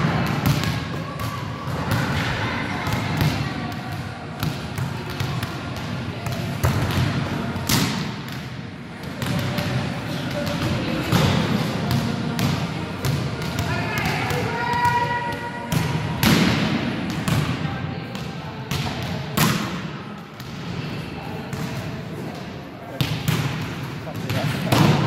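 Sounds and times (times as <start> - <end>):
volleyballs thudding in a hall: 0.0 - 25.0.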